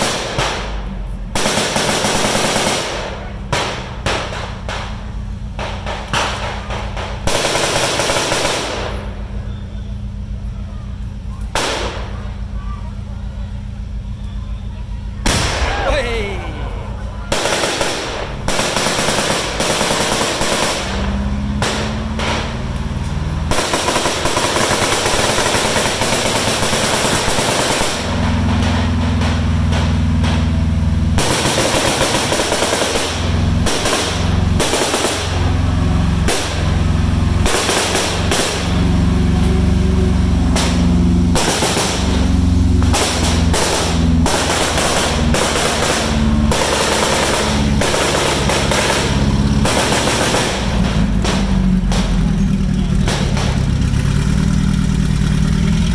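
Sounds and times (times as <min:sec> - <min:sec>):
machine-gun and rifle fire: 0:00.0 - 0:09.4, 0:11.5 - 0:12.5, 0:15.2 - 0:16.3, 0:17.3 - 0:22.8, 0:23.4 - 0:54.1
tank engine drone: 0:00.0 - 0:55.9.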